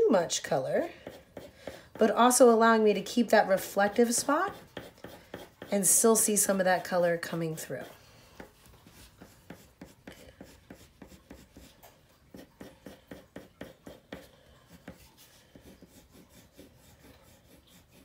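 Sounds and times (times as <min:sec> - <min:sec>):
pencil scratching on paper: 0:00.7 - 0:02.3, 0:03.4 - 0:18.0.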